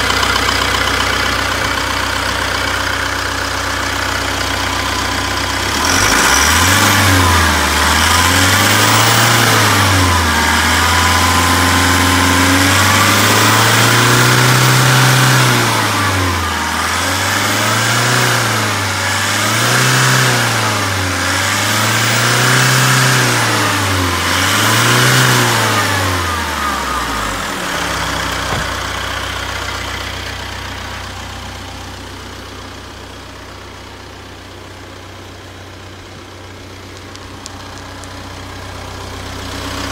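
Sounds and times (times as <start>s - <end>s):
truck engine revving and idling: 0.0s - 39.9s.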